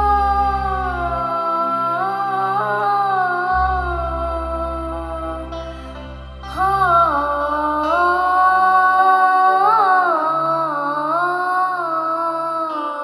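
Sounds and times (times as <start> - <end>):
girl singing into microphone: 0.0 - 5.9, 6.5 - 13.0
keyboard accompaniment: 0.0 - 13.0.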